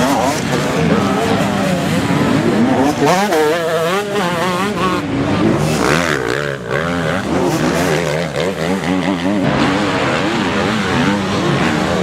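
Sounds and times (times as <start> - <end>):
motocross motorcycles racing: 0.0 - 12.0.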